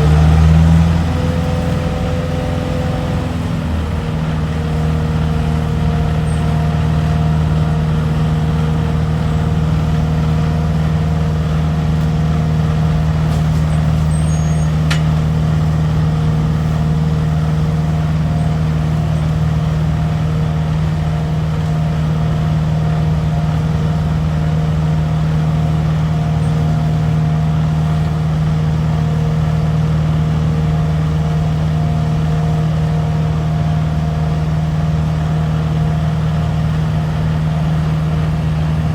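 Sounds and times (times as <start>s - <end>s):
truck engine running steadily: 0.0s - 38.9s.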